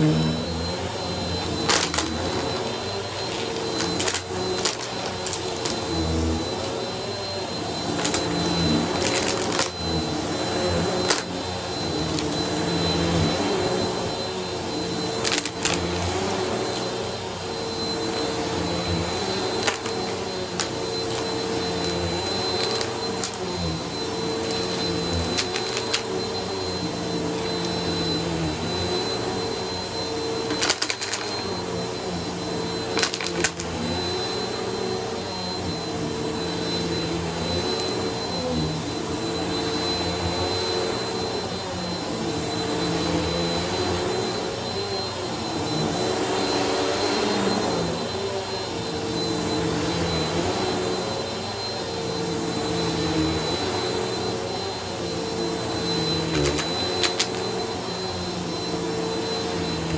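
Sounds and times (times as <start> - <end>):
vacuum cleaner running on a rug: 0.0 - 59.9.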